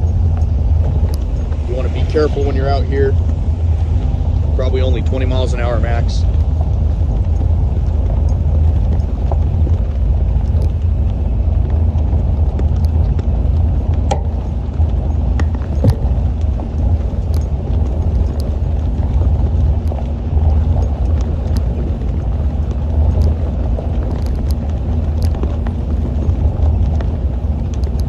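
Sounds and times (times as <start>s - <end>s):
car engine rumble: 0.0s - 28.0s
road noise: 0.0s - 28.0s
light clicks and rattles: 4.6s - 28.0s.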